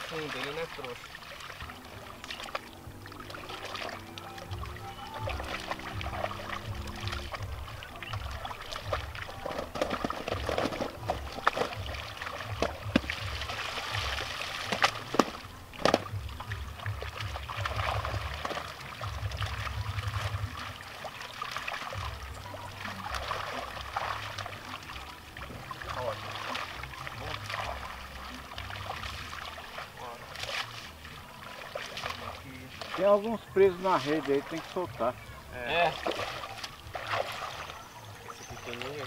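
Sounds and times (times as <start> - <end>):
pond water sloshing and splashing: 0.0 - 39.0.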